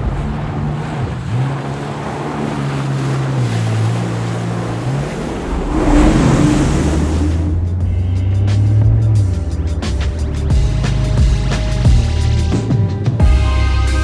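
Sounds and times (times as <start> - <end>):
rushing water and spray: 0.0 - 11.7
personal watercraft engine: 0.0 - 14.0
wind: 0.0 - 14.0.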